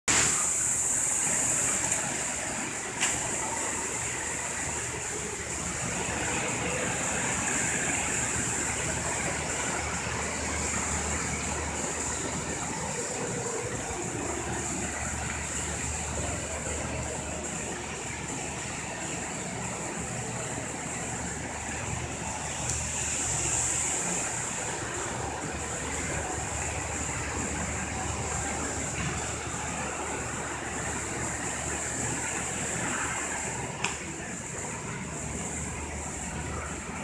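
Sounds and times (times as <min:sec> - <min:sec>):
ventilation hiss: 0:00.1 - 0:37.0.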